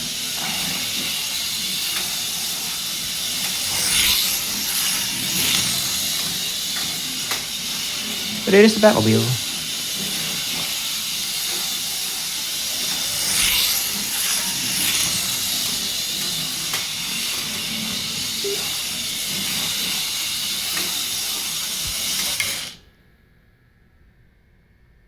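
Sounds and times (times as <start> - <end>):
slot car motor whirring: 0.0 - 22.8.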